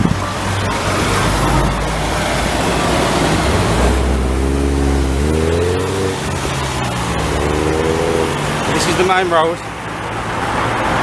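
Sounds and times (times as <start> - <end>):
engines accelerating: 0.0 - 11.0
heavy road traffic passing: 0.0 - 11.0.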